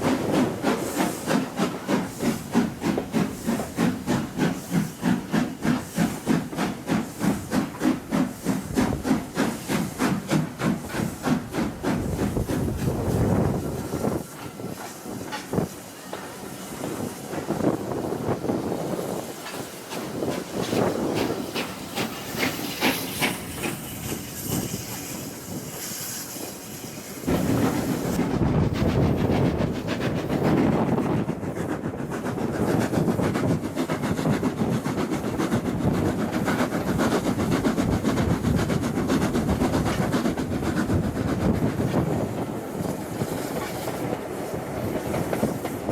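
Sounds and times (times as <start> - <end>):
hiss of steam: 0.0 - 45.9
train wheels clickety-clack: 0.0 - 45.9.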